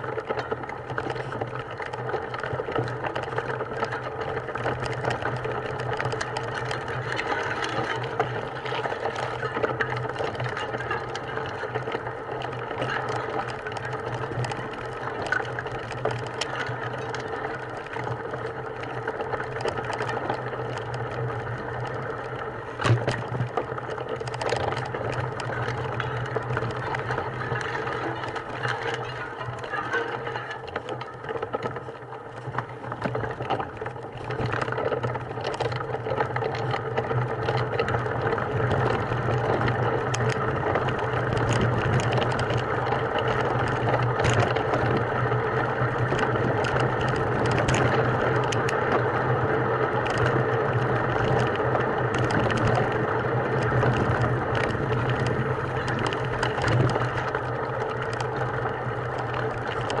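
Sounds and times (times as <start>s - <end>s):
clicks and rattles: 0.0s - 49.3s, 49.9s - 60.0s
small engine running: 0.0s - 60.0s.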